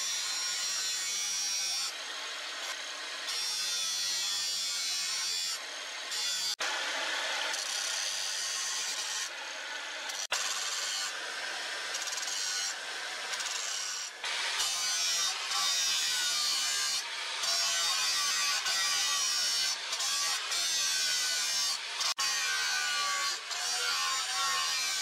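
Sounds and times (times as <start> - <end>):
angle grinder grinding steel: 0.0 - 25.0.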